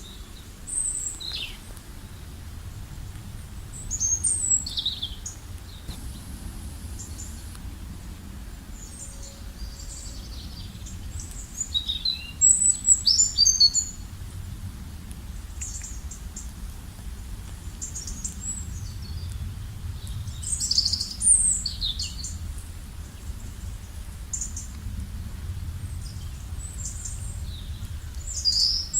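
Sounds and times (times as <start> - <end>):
low background rumble: 0.0 - 28.9.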